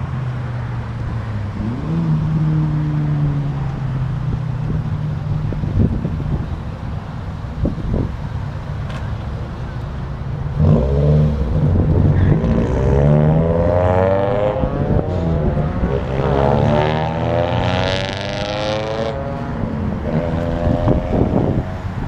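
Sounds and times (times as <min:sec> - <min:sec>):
cars accelerating: 0:00.0 - 0:22.0.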